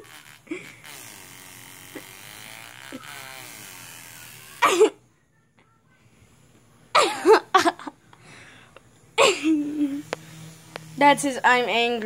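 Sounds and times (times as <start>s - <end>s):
electric fan buzz: 0.0s - 5.1s, 6.7s - 12.0s.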